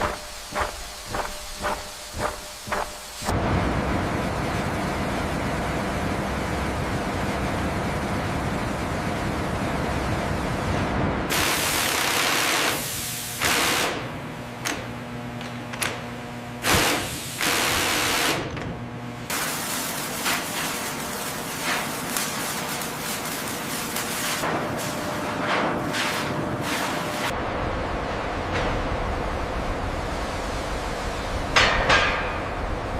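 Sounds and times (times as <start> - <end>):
industrial machinery hiss and hum: 0.0 - 32.9.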